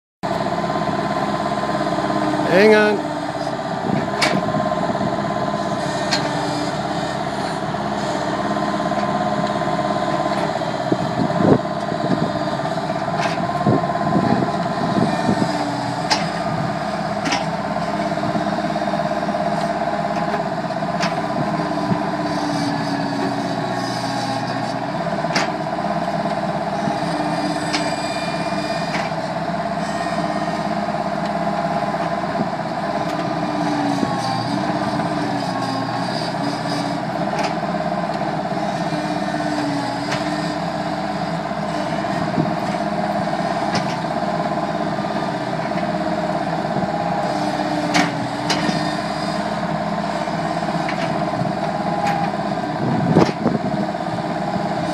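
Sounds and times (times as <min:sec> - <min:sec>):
diesel engine running with whine: 0:00.2 - 0:54.9.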